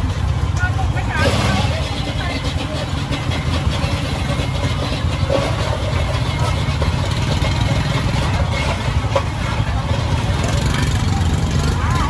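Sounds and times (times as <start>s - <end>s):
street noise: 0.0s - 12.0s
vehicle engine idling: 0.0s - 12.0s.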